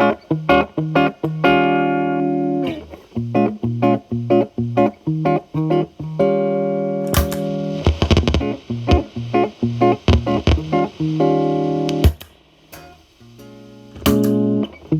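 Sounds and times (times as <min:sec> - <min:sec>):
distorted electric guitar chords: 0:00.0 - 0:14.9.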